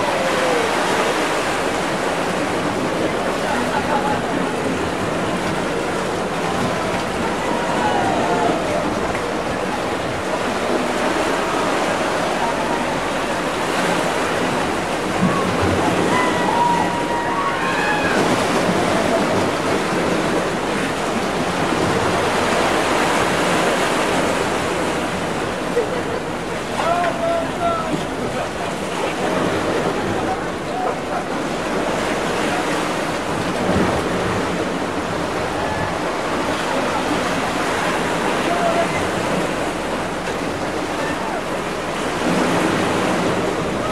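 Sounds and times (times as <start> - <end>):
distant voices: 0.0 - 43.9
sea water rushing: 0.0 - 43.9.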